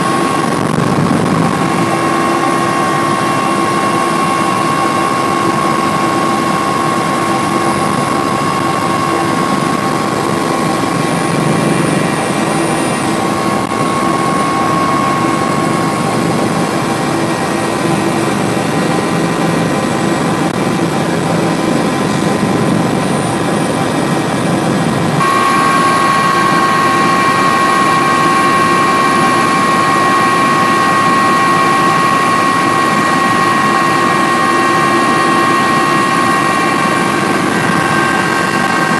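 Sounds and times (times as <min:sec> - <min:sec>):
engine drone with whine: 0:00.0 - 0:38.9.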